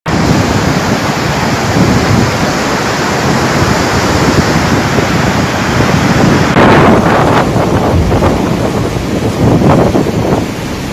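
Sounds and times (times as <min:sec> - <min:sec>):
floodwater rushing: 0:00.1 - 0:10.9
low rumble: 0:01.8 - 0:10.9.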